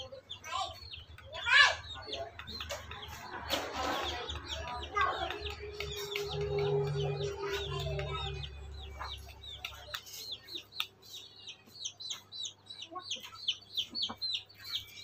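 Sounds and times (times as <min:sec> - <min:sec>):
chicks peeping: 0:00.0 - 0:15.0
hens clucking: 0:01.0 - 0:14.9.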